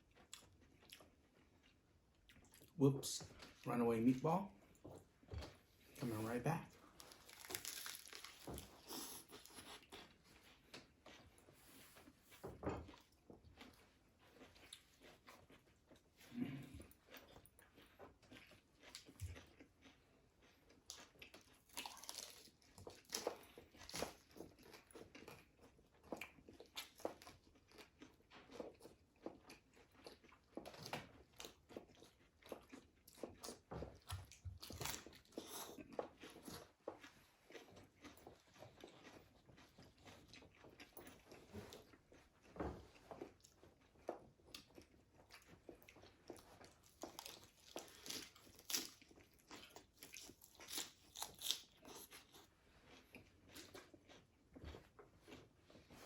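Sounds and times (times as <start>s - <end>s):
crunching of crispy food: 6.0s - 11.2s, 13.5s - 42.4s, 43.1s - 55.6s.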